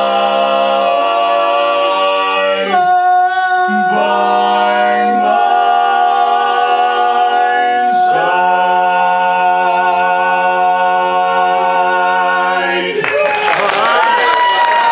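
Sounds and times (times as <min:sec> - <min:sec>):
men singing a cappella harmony: 0:00.0 - 0:13.1.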